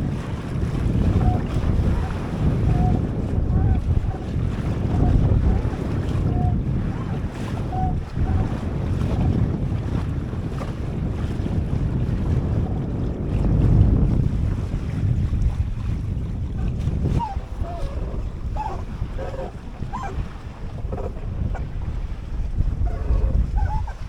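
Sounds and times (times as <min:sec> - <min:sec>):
water rushing along boat hull: 0:00.0 - 0:24.0
wind buffeting microphone: 0:00.0 - 0:24.0.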